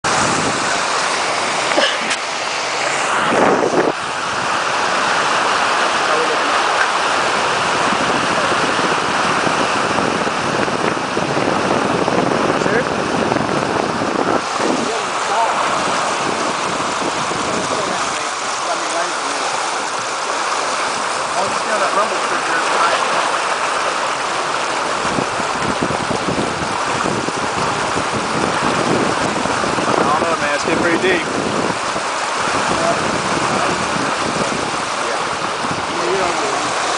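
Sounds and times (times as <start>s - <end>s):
floodwater rushing: 0.0s - 36.9s
wind buffeting microphone: 0.0s - 36.9s.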